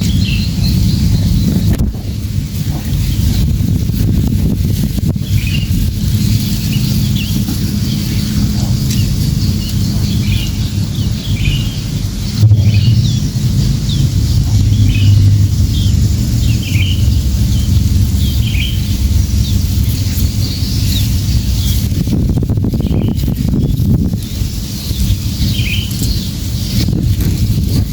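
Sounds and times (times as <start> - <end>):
small birds chirping: 0.0 - 27.9
steady low rumble: 0.0 - 27.9.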